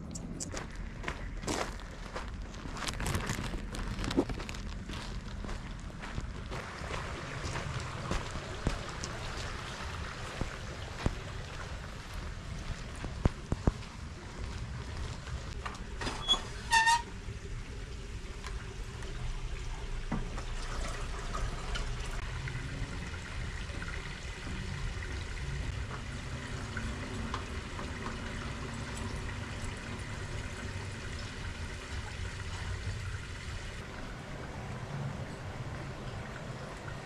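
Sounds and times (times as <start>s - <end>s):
trickle of running water: 0.0s - 37.0s.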